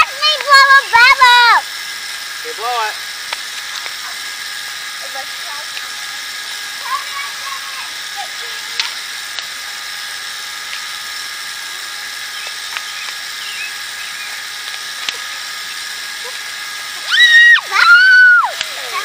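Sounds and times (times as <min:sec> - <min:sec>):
bubble machine fan whining: 0:00.0 - 0:19.0.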